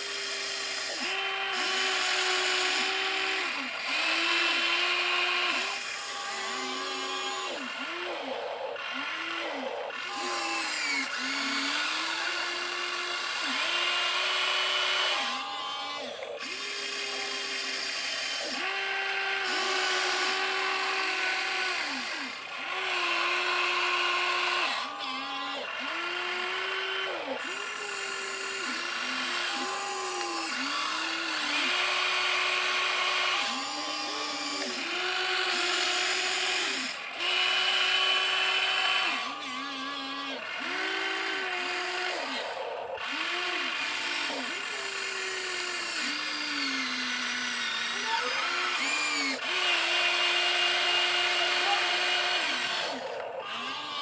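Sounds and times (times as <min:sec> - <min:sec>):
toy excavator electric motors whining: 0:00.0 - 0:54.0.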